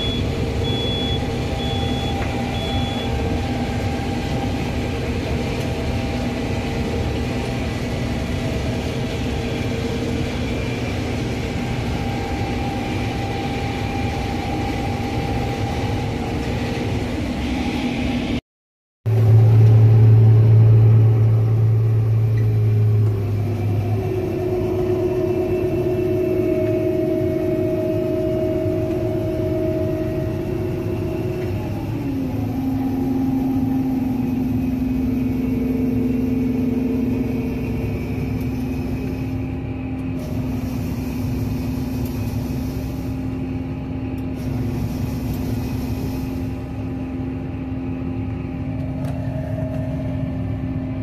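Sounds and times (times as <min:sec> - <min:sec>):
combine harvester engine drone: 0:00.0 - 0:18.4, 0:19.1 - 0:51.0.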